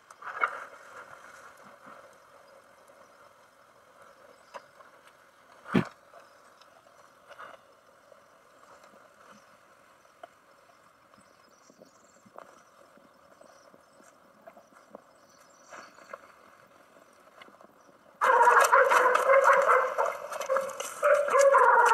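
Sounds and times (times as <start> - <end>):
quiet hiss: 0.0 - 21.7.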